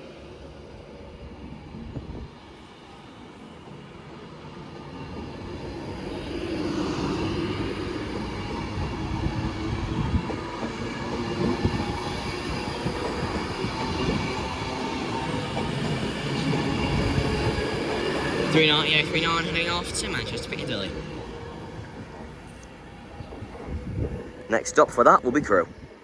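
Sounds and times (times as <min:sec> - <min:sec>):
electric train traction whine: 0:00.1 - 0:26.0.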